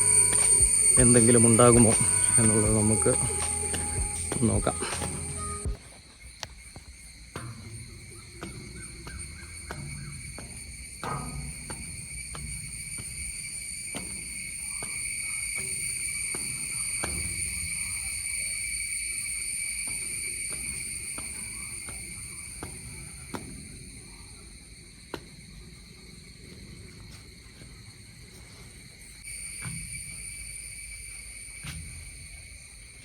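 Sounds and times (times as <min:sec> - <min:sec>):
insects droning high-pitched: 0:00.0 - 0:33.0.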